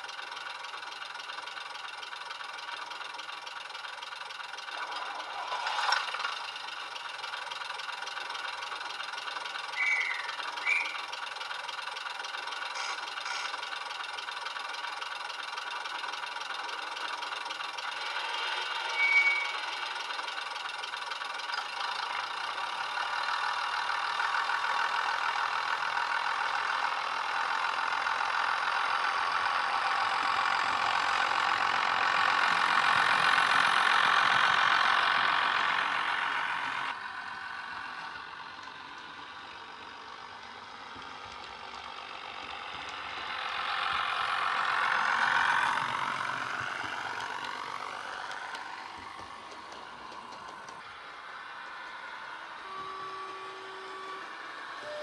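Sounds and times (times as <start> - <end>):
model train diesel engine sound: 0.0 - 55.0.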